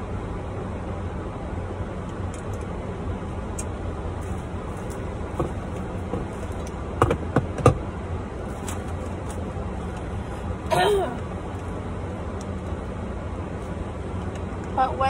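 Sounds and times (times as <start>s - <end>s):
low hum inside a car: 0.0s - 15.0s.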